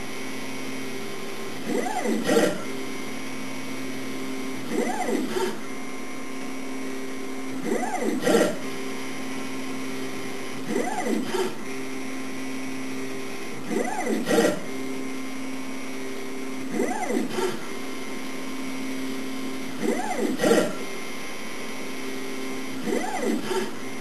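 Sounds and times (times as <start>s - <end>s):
motor whine rising and falling: 0.0s - 24.0s
stepper motor hum: 0.0s - 24.0s.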